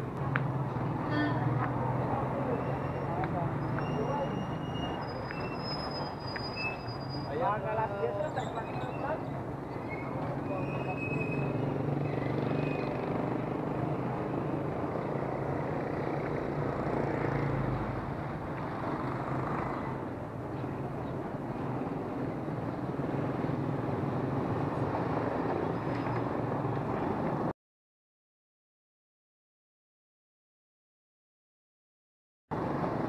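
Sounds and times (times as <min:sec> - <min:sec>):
street traffic: 0:00.0 - 0:27.5, 0:32.5 - 0:33.0.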